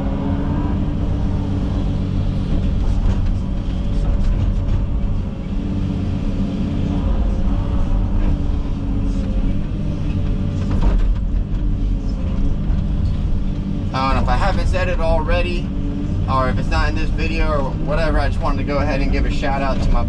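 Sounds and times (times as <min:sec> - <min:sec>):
excavator diesel engine drone: 0:00.0 - 0:20.0.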